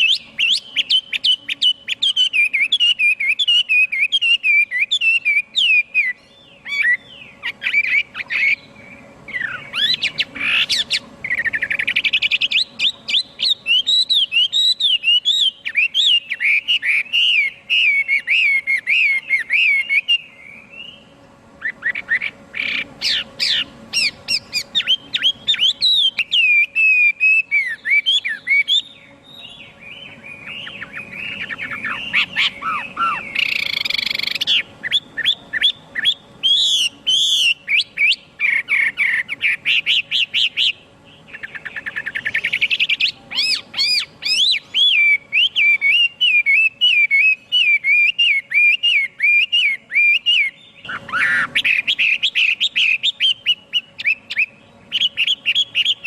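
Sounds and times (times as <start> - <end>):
bird singing whistled phrases: 0.0 - 21.0, 21.6 - 56.0.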